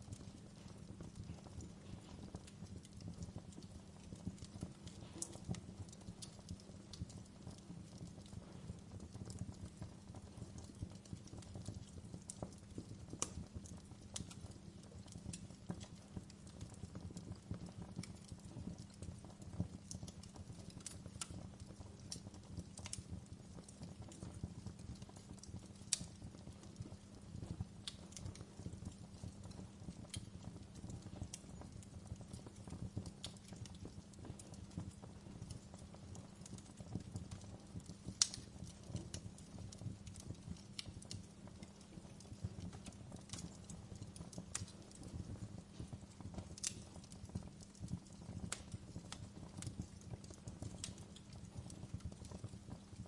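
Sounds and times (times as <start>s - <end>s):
fire pops and crackles: 0.0s - 53.0s
low rumble of burning logs: 0.0s - 53.0s.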